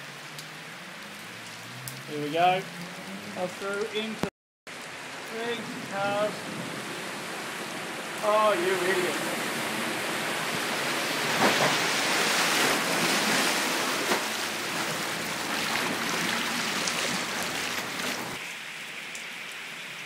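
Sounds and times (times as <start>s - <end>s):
cars pushing through water: 0.0s - 18.8s
floodwater rushing and splashing: 0.0s - 20.0s.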